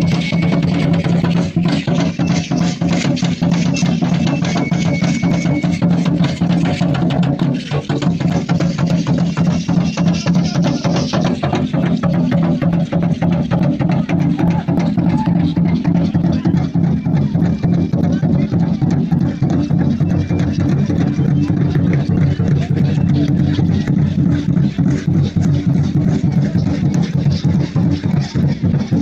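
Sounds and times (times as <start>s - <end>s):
fast dense drumming: 0.0s - 29.0s.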